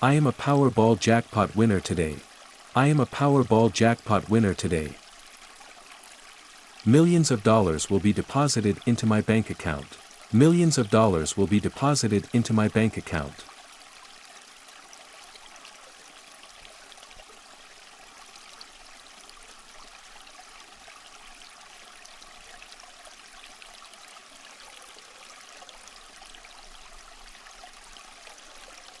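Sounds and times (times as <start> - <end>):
stream babbling: 0.0 - 29.0.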